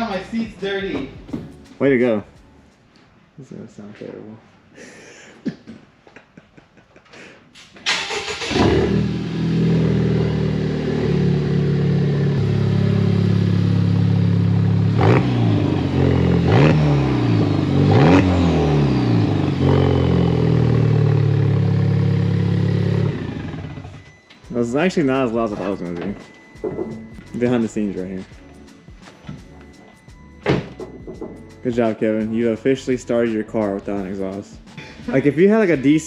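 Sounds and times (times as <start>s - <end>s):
car engine starting and idling: 0.0s - 2.5s, 7.8s - 34.3s.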